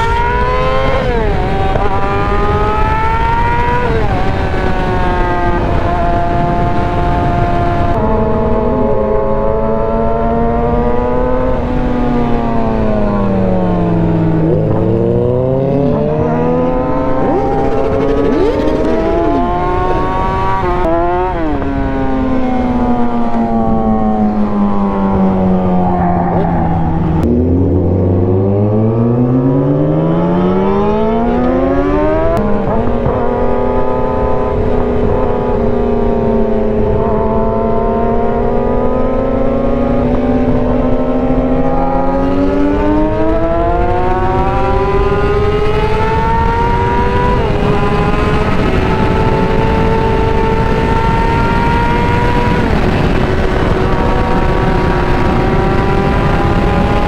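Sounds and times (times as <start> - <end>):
motorcycle engine revving and shifting: 0.0 - 57.0.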